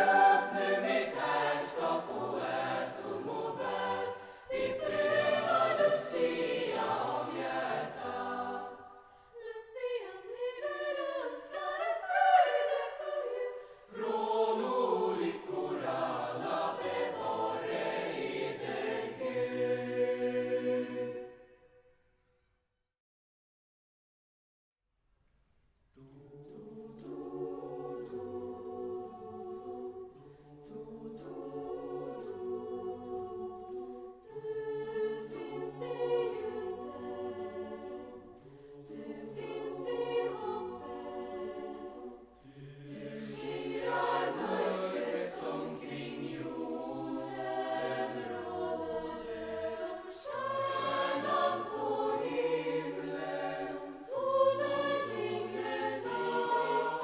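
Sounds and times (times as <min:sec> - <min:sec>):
youth choir singing: 0:00.0 - 0:21.5, 0:26.0 - 0:57.0.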